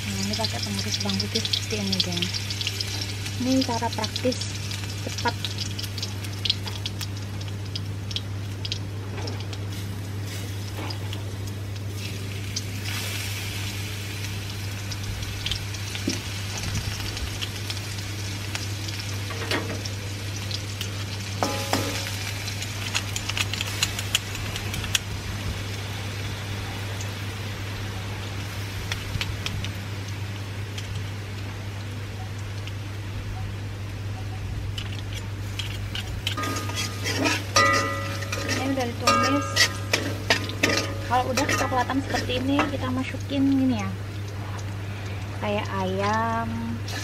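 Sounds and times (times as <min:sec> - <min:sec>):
garlic sizzling in hot oil: 0:00.0 - 0:47.0
steady low hum: 0:00.0 - 0:47.0.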